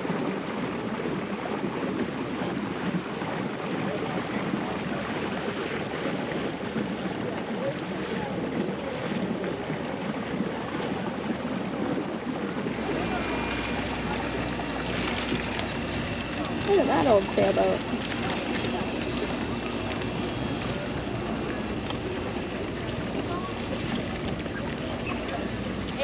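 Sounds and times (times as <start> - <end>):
boat engine noise: 0.0 - 26.0
rush of water: 0.0 - 26.0
wind buffeting microphone: 0.0 - 26.0.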